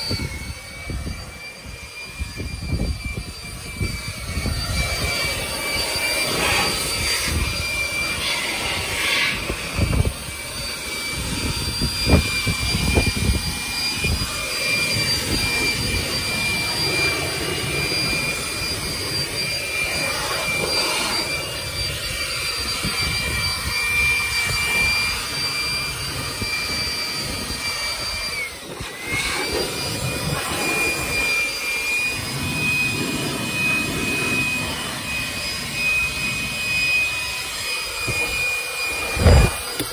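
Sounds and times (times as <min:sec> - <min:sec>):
electric air blower whining: 0:00.0 - 0:39.9.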